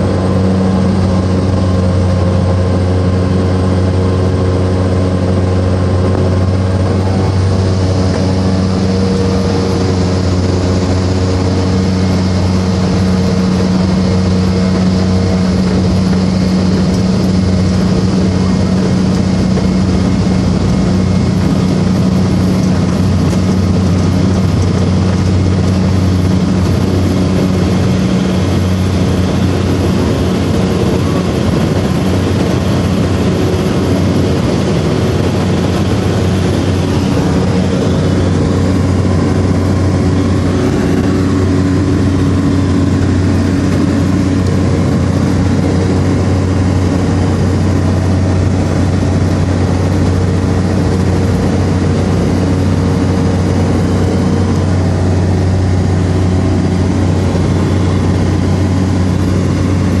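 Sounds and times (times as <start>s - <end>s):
propeller engines droning: 0.0s - 60.0s.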